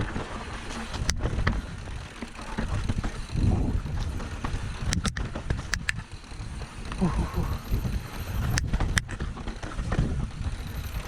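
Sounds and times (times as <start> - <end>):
bicycle rolling over rough ground: 0.0 - 11.0
wind buffeting microphone: 0.0 - 11.0
sharp clicks and rattles: 0.7 - 11.0.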